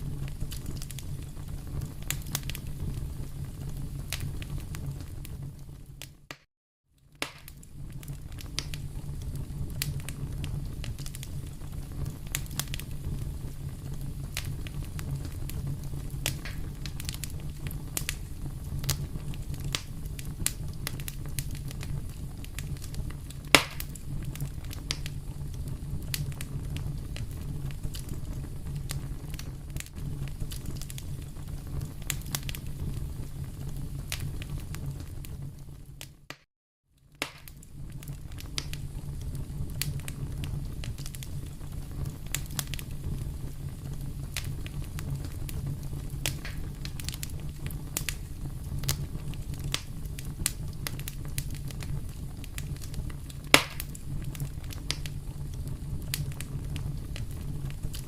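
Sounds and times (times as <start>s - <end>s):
loud pop of fire: 0.0s - 6.5s, 7.1s - 36.5s, 37.1s - 58.0s
fire crackling in a fireplace: 0.0s - 58.0s.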